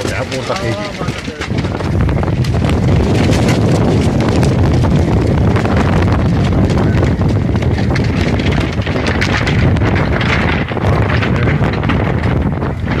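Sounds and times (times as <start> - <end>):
sharp clicks and knocks: 0.0 - 13.0
wind buffeting microphone: 0.0 - 13.0.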